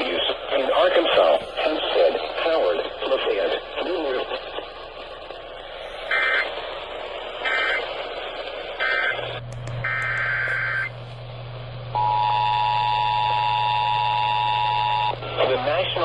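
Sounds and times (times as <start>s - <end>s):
radio hiss: 0.0s - 11.2s, 13.1s - 16.0s.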